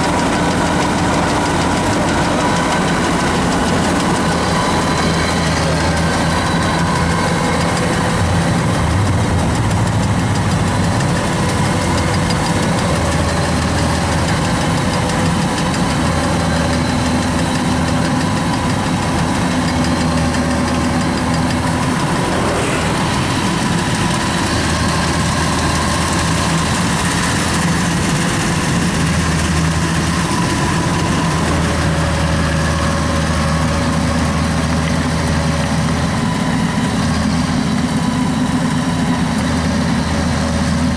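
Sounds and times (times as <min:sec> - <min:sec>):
combine harvester engine droning: 0:00.0 - 0:40.9.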